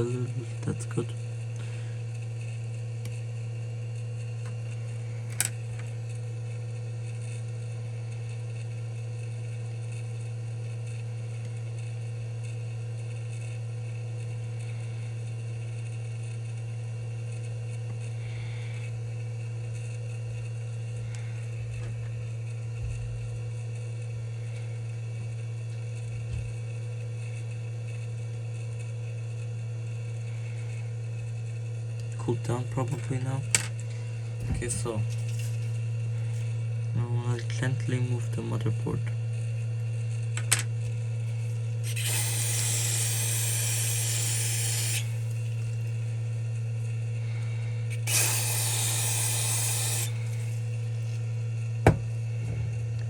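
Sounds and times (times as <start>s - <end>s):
electrical hum of equipment: 0.0s - 53.0s.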